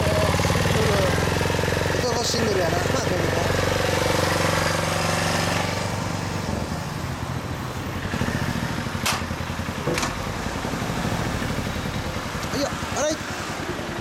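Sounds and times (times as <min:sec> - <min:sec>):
motorcycle engine idling: 0:00.0 - 0:05.0, 0:05.8 - 0:14.0.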